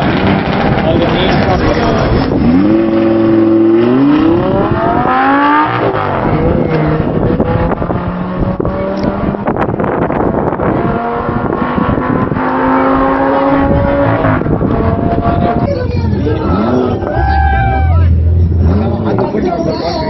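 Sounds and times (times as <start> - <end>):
racing car engine accelerating: 0.0 - 20.0.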